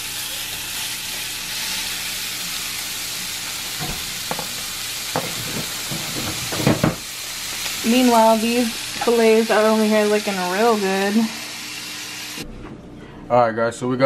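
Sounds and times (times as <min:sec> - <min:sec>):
bacon sizzling in frying pan: 0:00.0 - 0:12.4.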